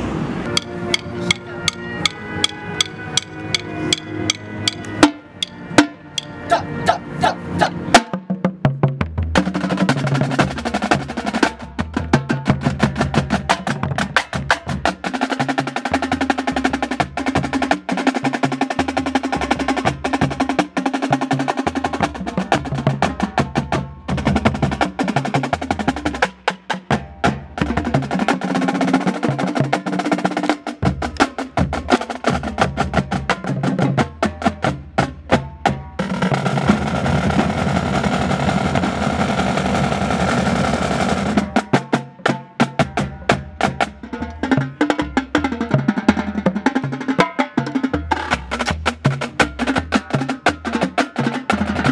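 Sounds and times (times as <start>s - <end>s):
drumline playing: 0.5s - 51.9s
bass drums: 7.6s - 42.0s, 42.6s - 51.9s.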